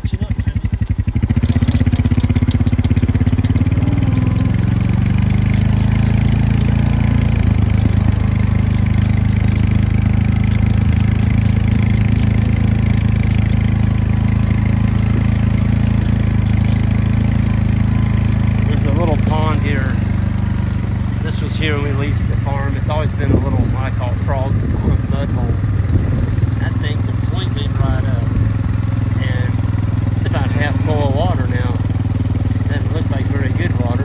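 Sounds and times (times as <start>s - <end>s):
small engine running: 0.0s - 34.0s
faint light rattles: 0.7s - 34.0s.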